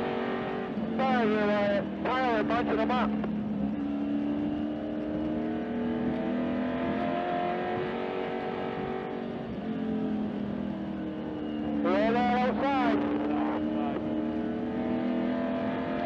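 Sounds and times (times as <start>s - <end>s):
race car engine from cockpit: 0.0s - 16.0s.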